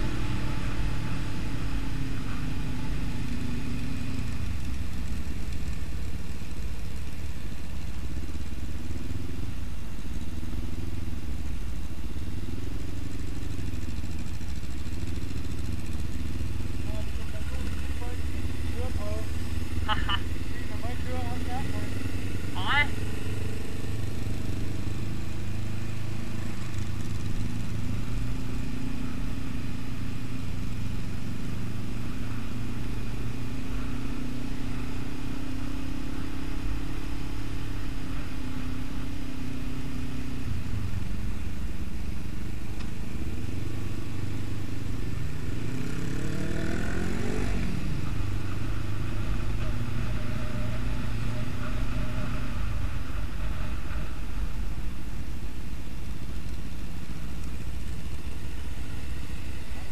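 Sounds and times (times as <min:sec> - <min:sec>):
motorcycle engine running and revving: 0:00.0 - 0:59.9.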